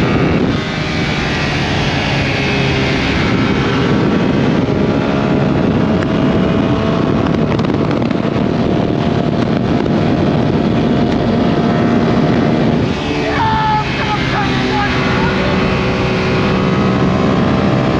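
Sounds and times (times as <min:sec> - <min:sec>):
motorcycle engine running: 0:00.0 - 0:17.9
wind noise on microphone: 0:00.0 - 0:17.9.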